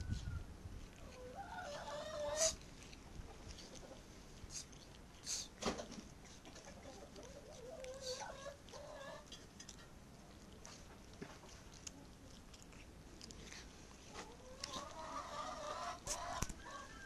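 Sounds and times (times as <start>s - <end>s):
cat chewing a bone: 0.6s - 16.9s.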